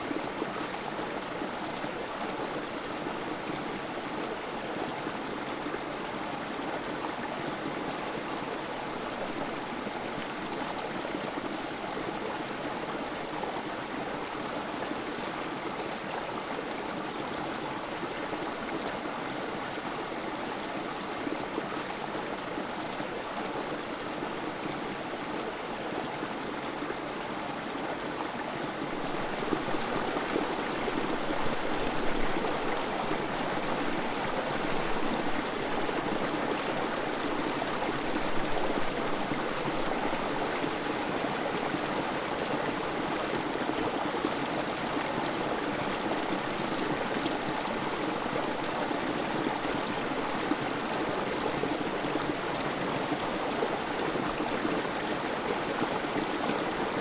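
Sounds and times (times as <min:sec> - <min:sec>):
creek water over rocks: 0:00.0 - 0:57.0.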